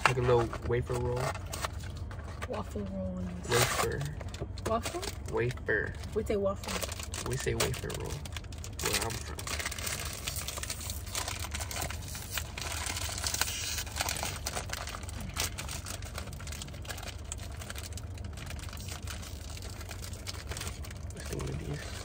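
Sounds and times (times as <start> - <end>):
steady low hum: 0.0 - 22.0
plastic wrapper crinkling: 3.4 - 22.0.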